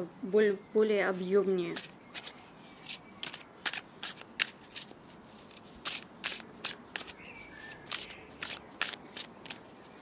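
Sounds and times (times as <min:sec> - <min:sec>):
cards being shuffled: 0:01.7 - 0:10.0.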